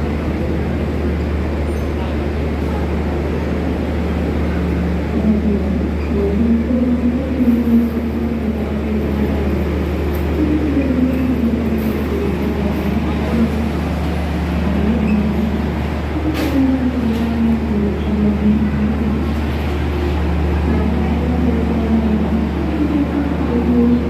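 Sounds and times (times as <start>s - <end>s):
diesel locomotive drone: 0.0s - 24.0s.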